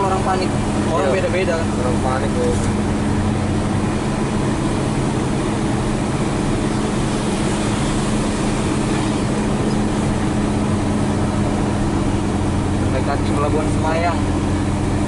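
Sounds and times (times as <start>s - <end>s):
road and tyre noise: 0.0s - 15.0s
truck diesel engine drone: 0.0s - 15.0s.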